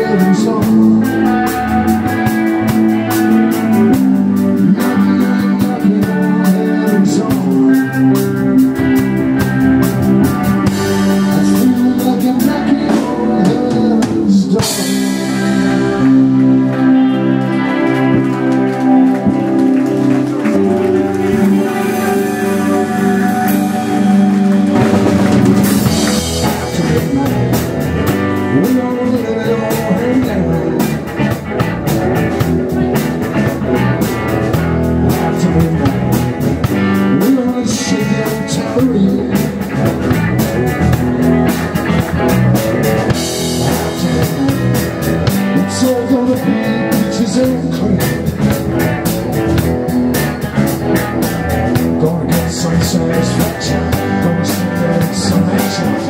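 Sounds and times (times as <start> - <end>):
man singing: 0.0 - 19.6, 20.6 - 56.0
rock band playing: 0.0 - 56.0.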